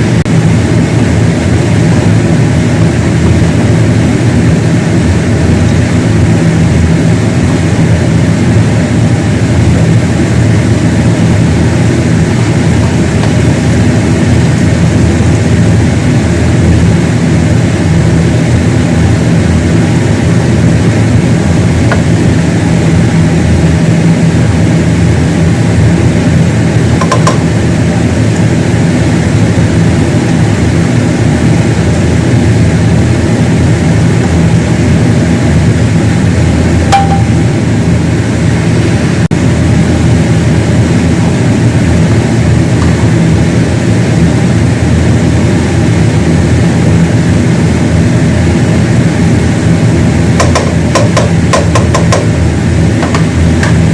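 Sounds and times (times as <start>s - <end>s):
loud machine hum: 0.0s - 53.9s.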